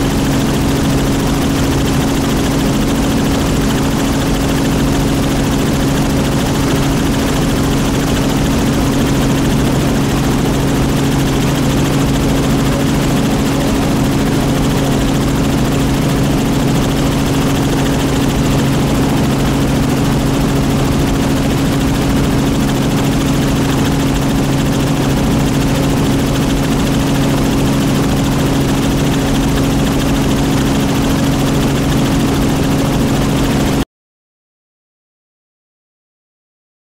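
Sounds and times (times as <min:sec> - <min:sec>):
helicopter engine and rotor hum: 0:00.0 - 0:33.8.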